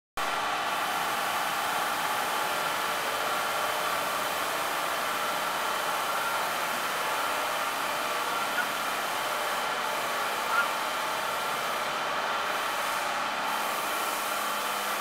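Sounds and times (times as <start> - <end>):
ventilation fan whooshing: 0.4 - 15.0.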